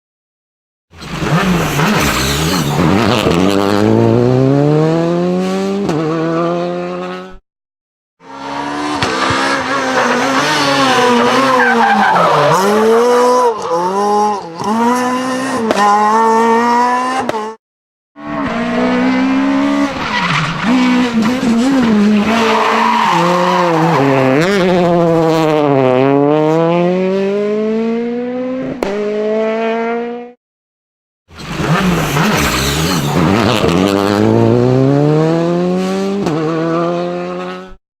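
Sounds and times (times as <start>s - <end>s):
rally car engine revving: 1.0s - 7.4s, 8.2s - 17.6s, 18.2s - 30.4s, 31.4s - 37.8s.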